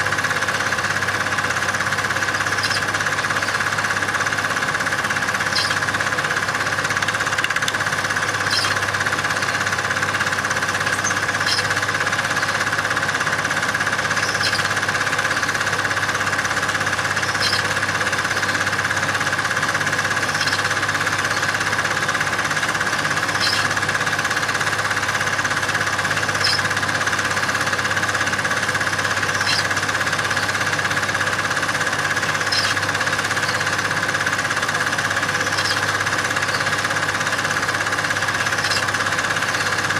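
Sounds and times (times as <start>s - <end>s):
steady mechanical running noise: 0.0s - 39.9s.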